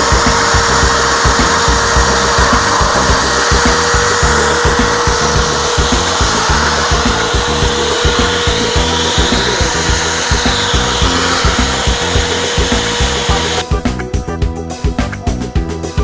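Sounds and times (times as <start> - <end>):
power tool humming: 0.0 - 13.7
background music with a beat: 0.0 - 16.0.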